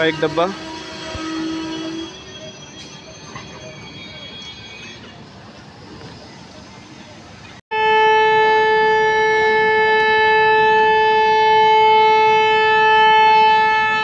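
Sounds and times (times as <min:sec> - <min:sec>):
locomotive horn blast: 0:00.0 - 0:05.4, 0:07.7 - 0:14.0.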